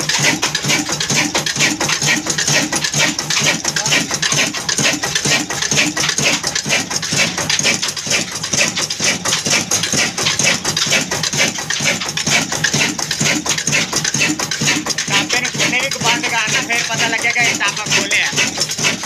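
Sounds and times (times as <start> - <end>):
diesel engine running: 0.0 - 19.0
rocker arms clattering: 0.0 - 19.0.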